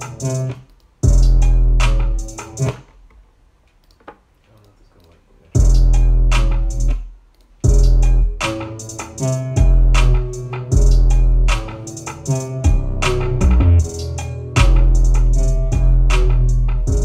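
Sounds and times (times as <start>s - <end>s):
trap beat through speakers: 0.0s - 2.8s, 5.6s - 17.0s.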